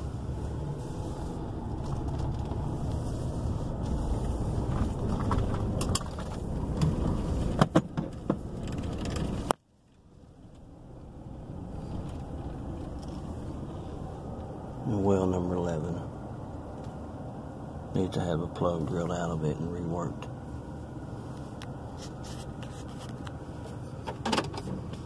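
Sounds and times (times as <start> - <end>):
truck rumbling on dirt road: 0.0 - 25.0.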